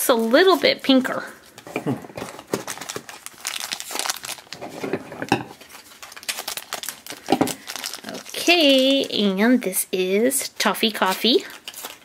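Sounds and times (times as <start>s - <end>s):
plastic wrapper crinkling: 0.0s - 9.7s, 10.6s - 12.0s.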